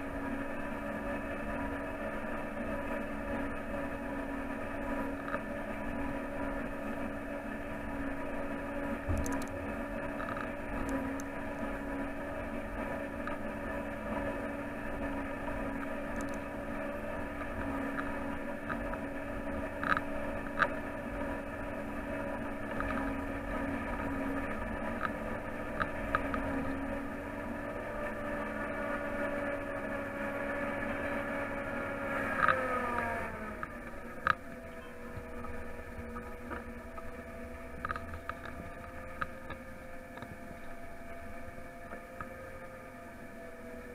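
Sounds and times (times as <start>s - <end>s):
forage harvester droning: 0.0s - 43.9s.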